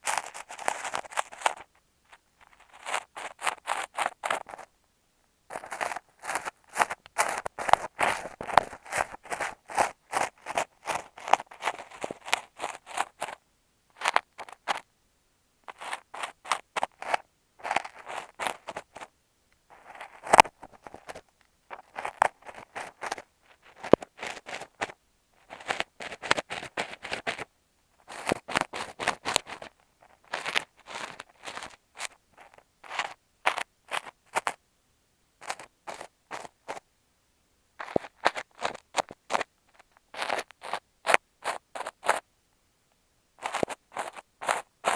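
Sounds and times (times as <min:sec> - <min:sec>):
sand scratching on microphone: 0:00.0 - 0:04.7, 0:05.5 - 0:13.4, 0:15.7 - 0:19.1, 0:19.7 - 0:34.6, 0:35.4 - 0:36.8, 0:37.8 - 0:42.2, 0:43.4 - 0:44.9.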